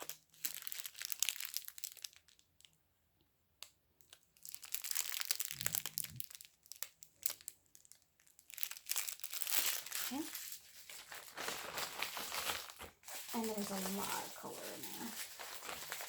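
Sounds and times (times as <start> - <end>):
plastic bags crinkling: 0.0 - 2.8, 4.0 - 16.0.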